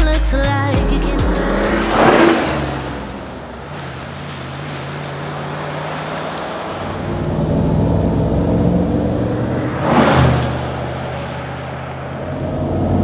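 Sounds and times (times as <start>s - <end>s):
car engine passing by: 1.0s - 13.0s.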